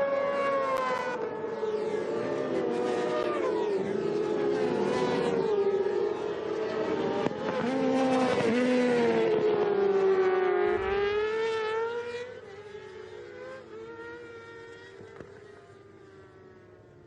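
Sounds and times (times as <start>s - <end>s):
racing motorcycles at high revs: 0.0s - 15.6s.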